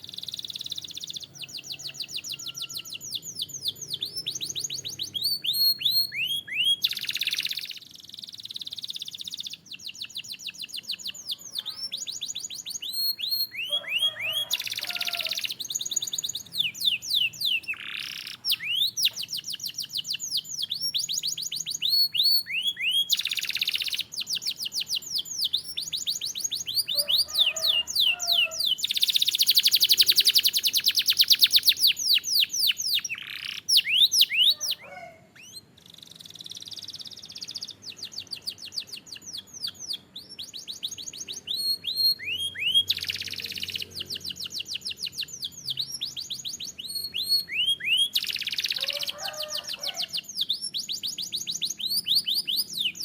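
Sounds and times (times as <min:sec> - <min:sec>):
canary singing: 0:00.0 - 0:53.0.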